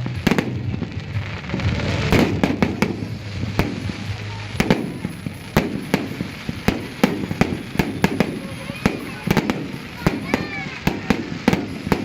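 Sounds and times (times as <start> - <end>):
firecracker crackle: 0.0 - 12.0
fireworks bangs: 0.0 - 12.0.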